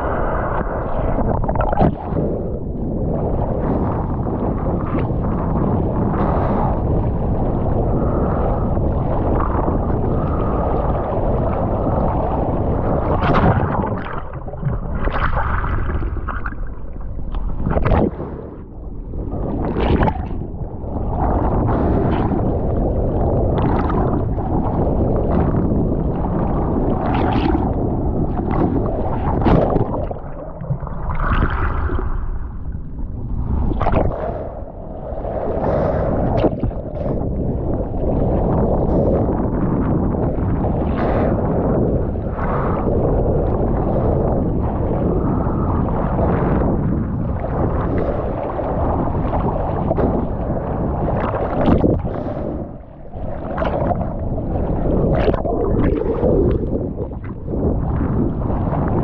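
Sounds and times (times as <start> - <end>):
ocean water rushing and sloshing: 0.0 - 59.0.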